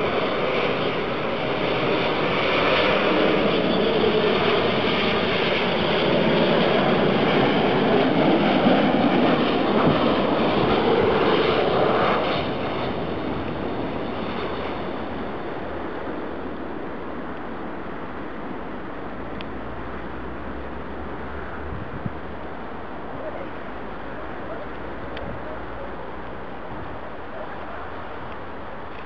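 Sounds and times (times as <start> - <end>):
aircraft rolling rumble: 0.0 - 29.0
jet engine noise: 0.0 - 29.0.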